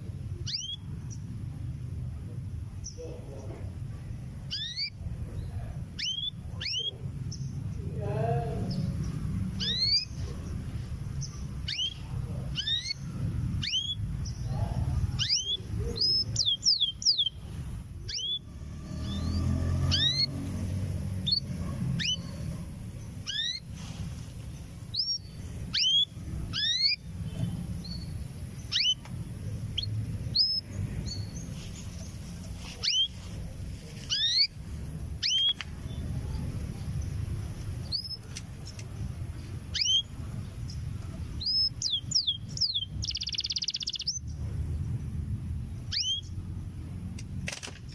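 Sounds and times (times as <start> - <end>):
canary chirping: 0.0 - 1.7, 4.3 - 7.8, 8.7 - 44.9, 45.8 - 46.4.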